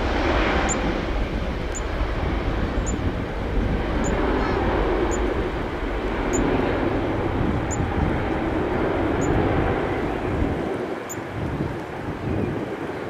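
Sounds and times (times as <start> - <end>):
jet engines roaring: 0.0 - 13.0
wind on microphone: 0.0 - 13.0.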